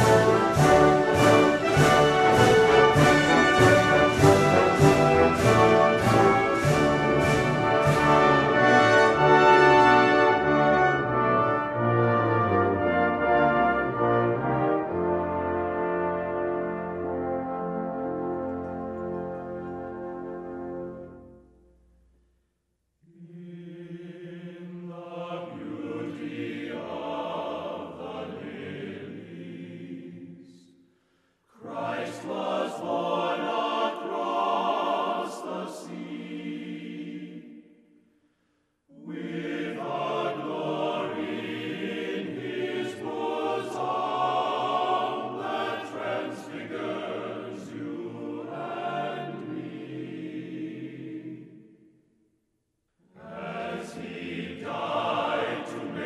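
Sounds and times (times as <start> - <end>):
choir singing: 0.0 - 21.4, 23.0 - 30.8, 31.5 - 37.9, 38.9 - 52.0, 53.0 - 56.0.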